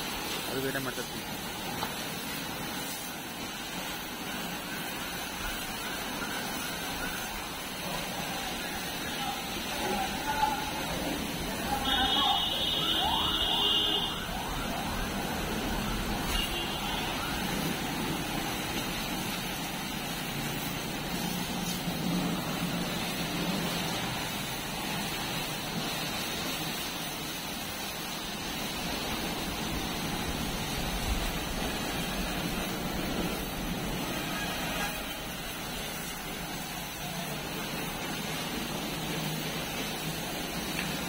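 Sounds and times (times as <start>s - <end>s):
high-pressure water jets hissing: 0.0s - 41.0s.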